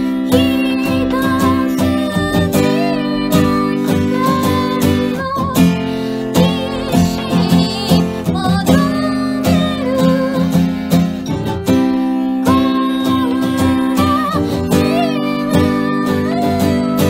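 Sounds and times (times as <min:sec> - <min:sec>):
acoustic guitar strumming: 0:00.0 - 0:17.0
woman singing: 0:00.0 - 0:17.0.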